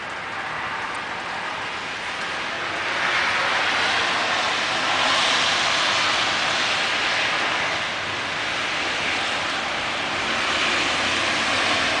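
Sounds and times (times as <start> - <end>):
freezing rain hissing: 0.0 - 12.0.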